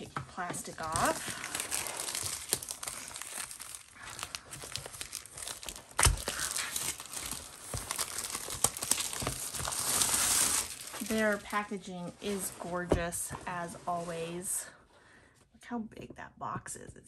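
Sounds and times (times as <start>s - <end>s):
plastic wrapping crinkling: 0.0s - 14.1s.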